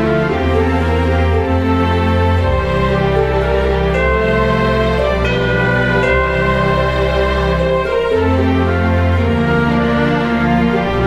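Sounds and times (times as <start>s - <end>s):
slow held chords music: 0.0s - 11.0s.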